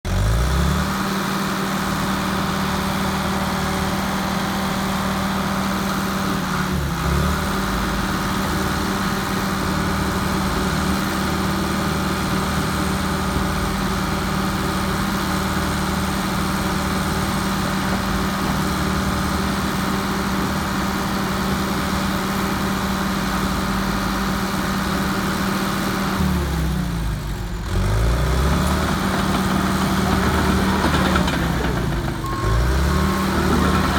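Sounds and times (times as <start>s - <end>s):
dozer diesel engine running: 0.0s - 33.9s.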